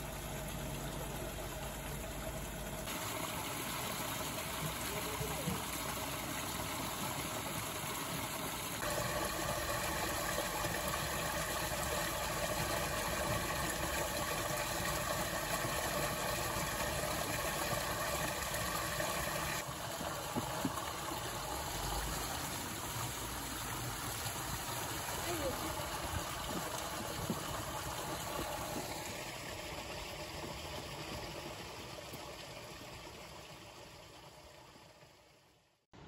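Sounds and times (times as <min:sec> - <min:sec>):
water gushing into a ditch: 0:00.0 - 0:35.1.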